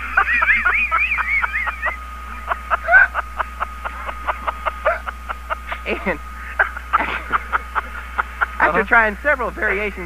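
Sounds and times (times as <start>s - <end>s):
high-pitched laughter: 0.0s - 8.6s.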